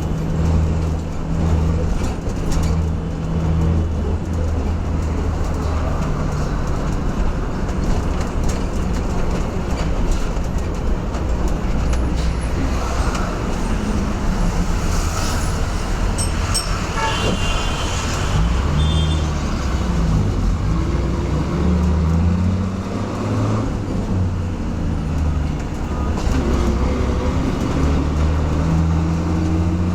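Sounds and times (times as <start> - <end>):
bus engine drone: 0.0 - 29.9
road noise: 0.0 - 29.9.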